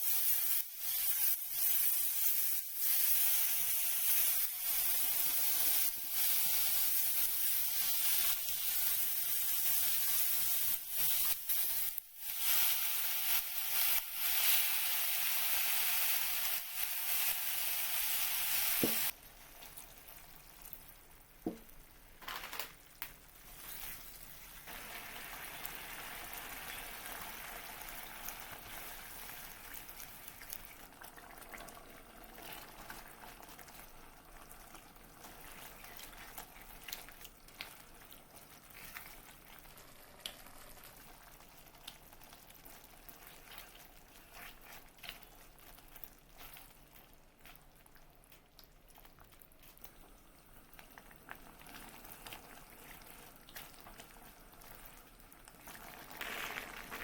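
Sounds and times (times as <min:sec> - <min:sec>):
food bubbling in a pan: 0:00.0 - 0:22.2, 0:23.2 - 0:57.0.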